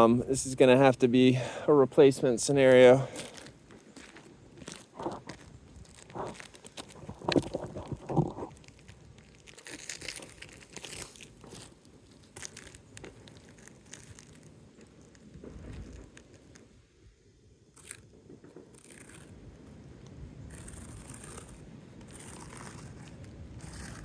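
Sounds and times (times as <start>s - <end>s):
roofing shingles crunching and scraping: 2.4s - 16.8s, 17.8s - 24.0s.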